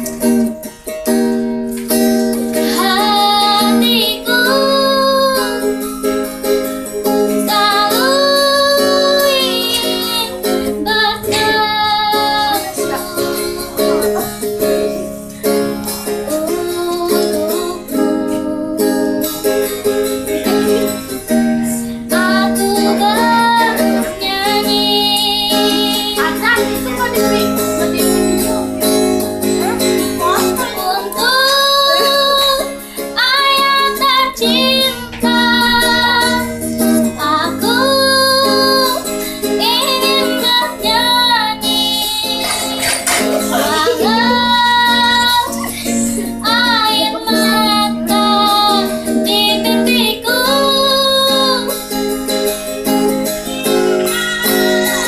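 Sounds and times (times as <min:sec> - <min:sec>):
strummed ukulele: 0:00.0 - 0:55.0
girl singing: 0:02.0 - 0:55.0.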